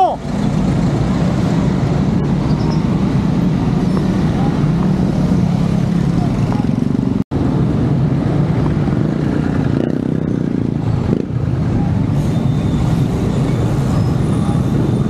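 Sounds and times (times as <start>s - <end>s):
traffic engines droning: 0.0s - 15.0s.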